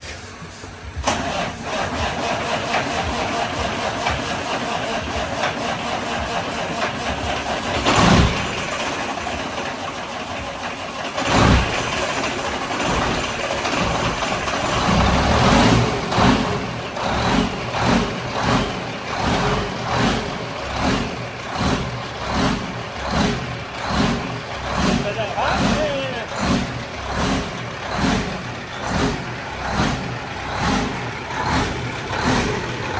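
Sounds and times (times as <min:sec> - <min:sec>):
truck diesel engine running: 0:00.0 - 0:32.9.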